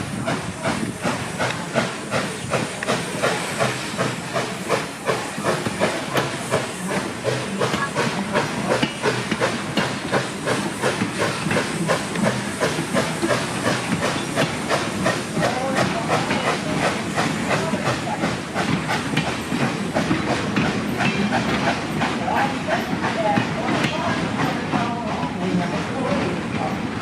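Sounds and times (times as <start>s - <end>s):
steam hissing: 0.0s - 27.0s
steam locomotive chugging: 0.0s - 27.0s.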